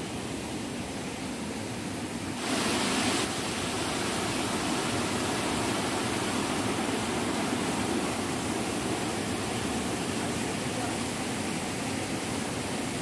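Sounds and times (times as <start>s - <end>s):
water rushing over rocks: 1.9s - 13.0s.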